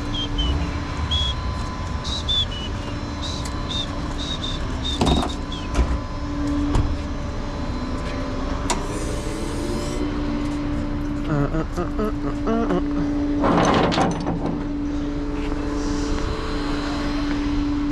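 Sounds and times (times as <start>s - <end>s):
truck engine rumble: 0.0s - 17.9s.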